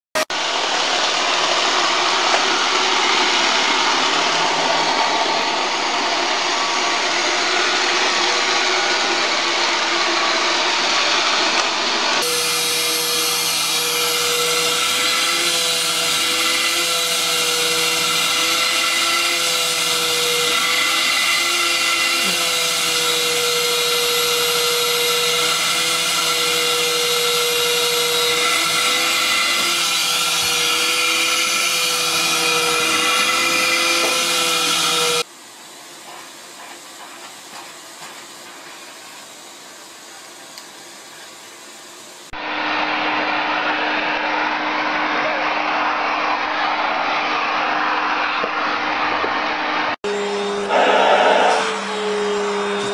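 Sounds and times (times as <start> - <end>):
vacuum cleaner running: 0.1 - 52.9.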